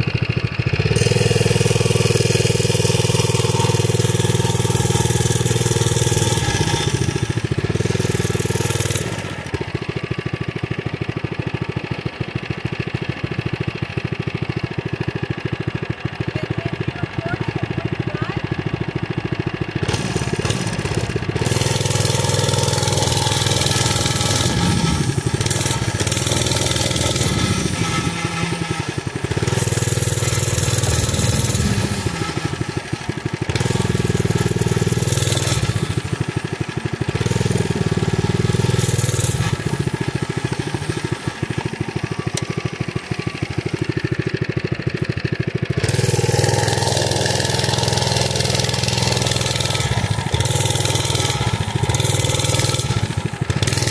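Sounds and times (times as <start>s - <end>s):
mini bike engine revving: 0.0s - 53.9s.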